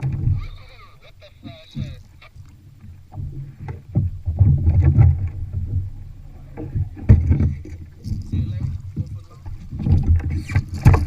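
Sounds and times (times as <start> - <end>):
water and gear moving against hull: 0.0 - 11.0.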